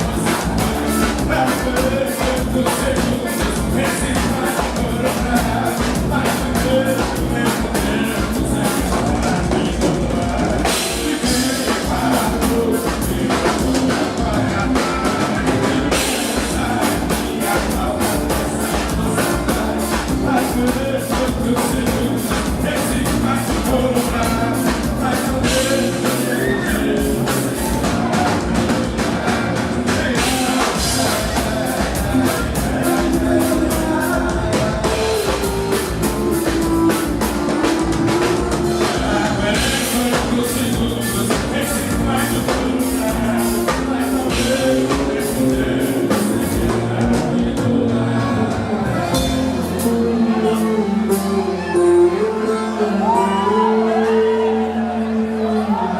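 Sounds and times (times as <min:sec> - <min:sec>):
drum kit steady beat: 0:00.0 - 0:51.4
band music: 0:00.0 - 0:55.9.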